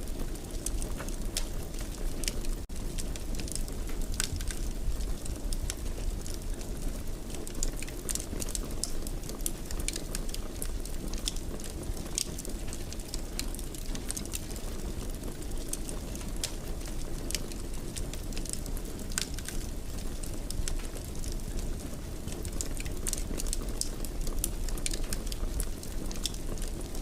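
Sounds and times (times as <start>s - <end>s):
fire crackling: 0.0s - 27.0s.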